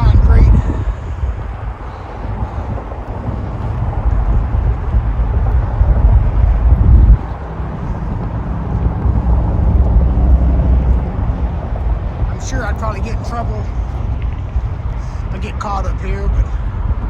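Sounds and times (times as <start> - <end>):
freeway traffic rumble: 0.0 - 17.0
steady engine hum: 0.0 - 17.0
wind on microphone: 0.0 - 17.0.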